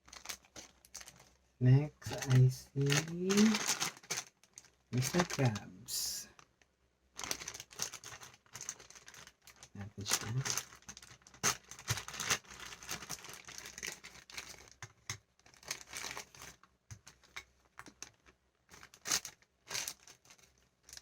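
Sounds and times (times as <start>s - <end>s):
plastic packaging crinkling and tearing: 0.0s - 1.3s, 2.0s - 6.6s, 7.2s - 21.0s.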